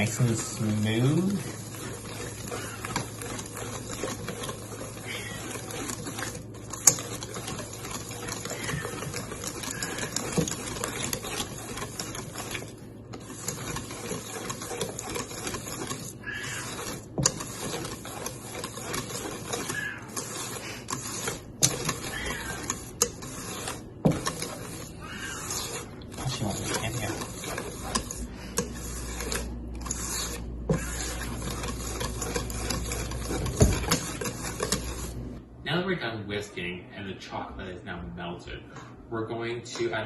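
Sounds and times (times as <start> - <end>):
whisk clattering against bowl: 0.0 - 35.2.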